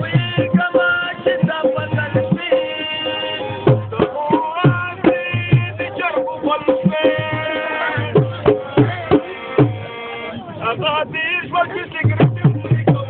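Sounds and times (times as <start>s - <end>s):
drum beats: 0.0s - 13.0s.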